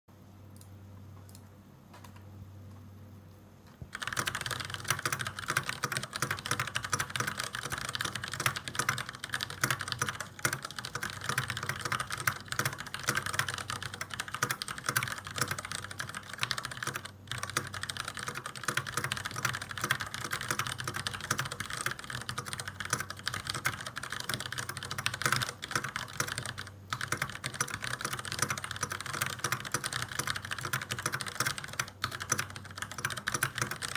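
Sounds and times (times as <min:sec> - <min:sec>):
faint low hum: 0:00.1 - 0:33.9
fast typing on mechanical keyboard: 0:03.9 - 0:33.9.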